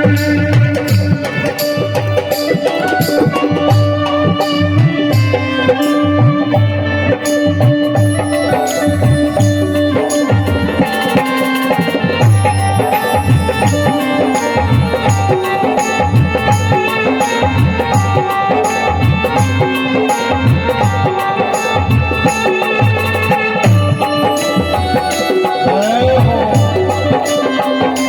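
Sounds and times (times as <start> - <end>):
hand drums: 0.0 - 28.0
melody instruments: 0.0 - 28.0.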